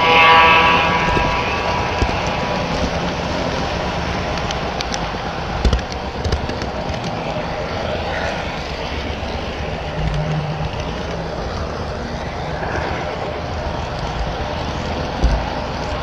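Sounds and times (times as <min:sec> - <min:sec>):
model train rolling rumble: 0:00.0 - 0:16.0.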